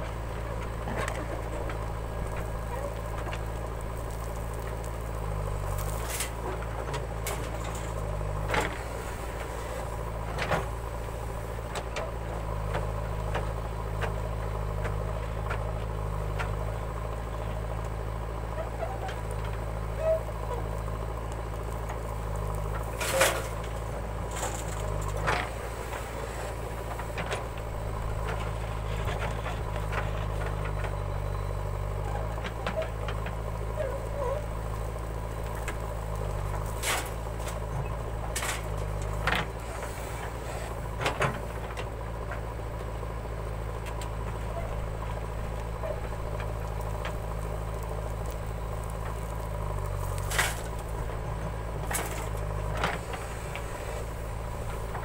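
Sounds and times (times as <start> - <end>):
backhoe arm digging soil: 0.0 - 55.0
diesel engine running: 0.0 - 55.0.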